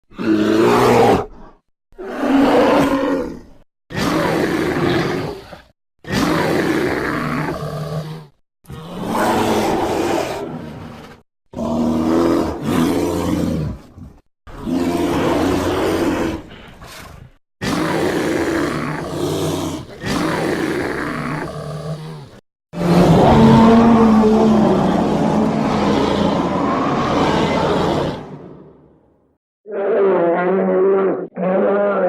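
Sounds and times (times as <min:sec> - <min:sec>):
dinosaur roars and growls: 0:00.1 - 0:32.0.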